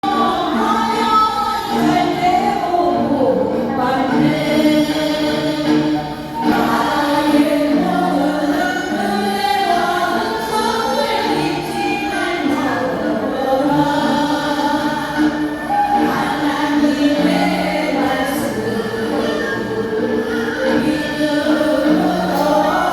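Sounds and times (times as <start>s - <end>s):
choir singing praise song: 0.0s - 22.9s.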